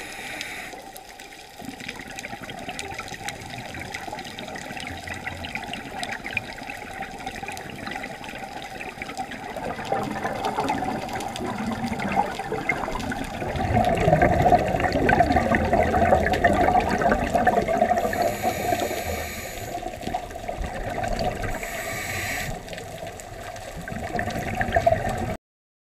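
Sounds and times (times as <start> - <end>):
underwater water noise: 0.0 - 25.4
gurgling bubble stream: 1.5 - 25.4.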